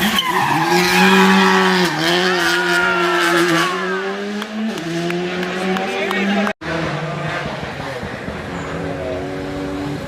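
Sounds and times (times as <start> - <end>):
race car engine at high revs: 0.0 - 10.0.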